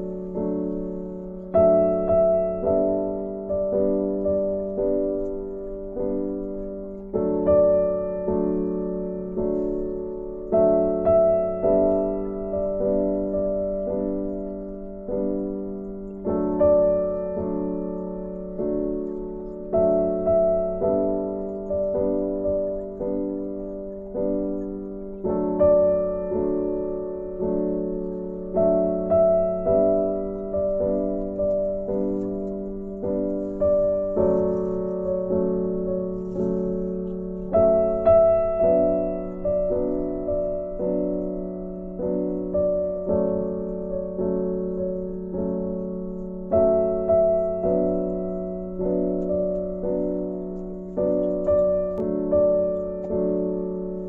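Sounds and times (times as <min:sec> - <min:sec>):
soft piano chords: 0:00.0 - 0:54.0.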